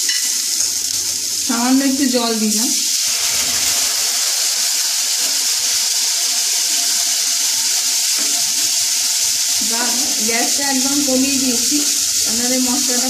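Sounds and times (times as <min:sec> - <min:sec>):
masala sizzling with loud hiss: 0:00.0 - 0:13.0.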